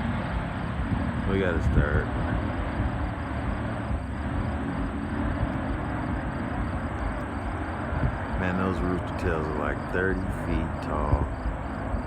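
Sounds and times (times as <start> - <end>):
racing boat engines: 0.0 - 12.0
wind noise: 0.0 - 12.0.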